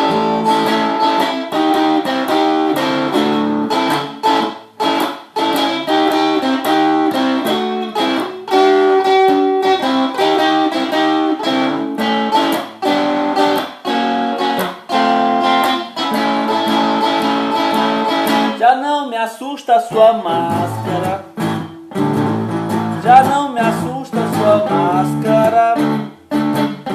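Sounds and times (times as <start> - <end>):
electric guitar playing blues: 0.0 - 26.9.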